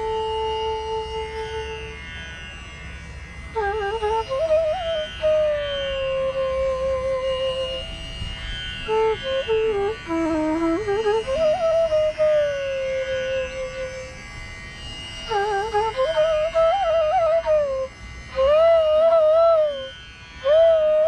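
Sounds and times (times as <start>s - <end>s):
bamboo flute melody: 0.0s - 2.2s, 3.5s - 8.2s, 8.8s - 14.2s, 15.2s - 21.0s.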